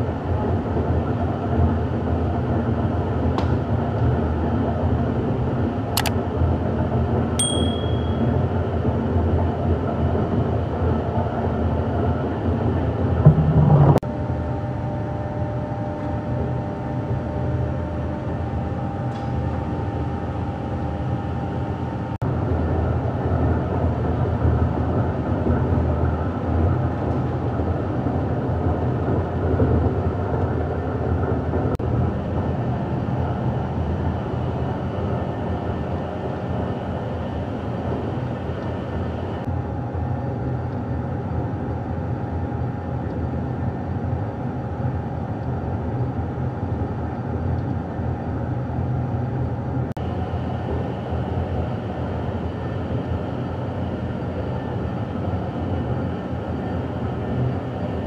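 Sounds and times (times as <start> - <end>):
extruder machine humming and rumbling: 0.0 - 58.0.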